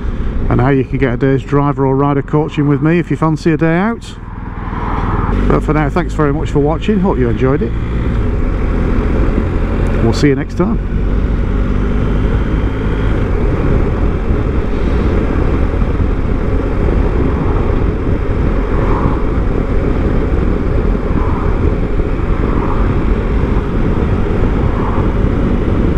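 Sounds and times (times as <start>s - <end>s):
wind rushing over microphone: 0.0s - 25.9s
motorcycle engine running: 4.2s - 25.9s.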